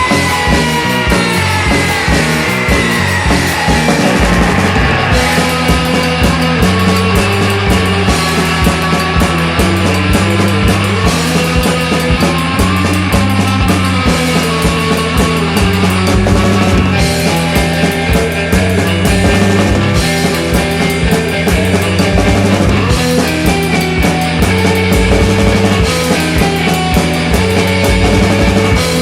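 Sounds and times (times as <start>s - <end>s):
bass guitar: 0.0s - 29.0s
drum kit: 0.0s - 29.0s
electric guitar: 0.0s - 29.0s.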